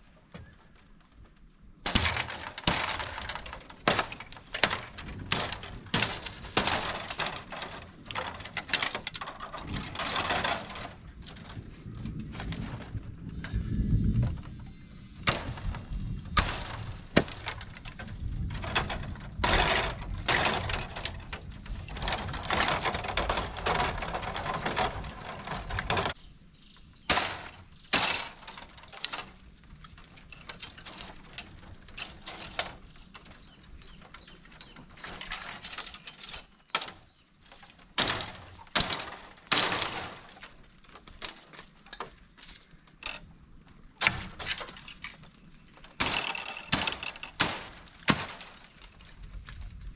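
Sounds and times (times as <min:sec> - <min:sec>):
bamboo branches cracking: 0:01.9 - 0:13.0, 0:15.2 - 0:26.2, 0:27.1 - 0:43.2, 0:44.0 - 0:49.9.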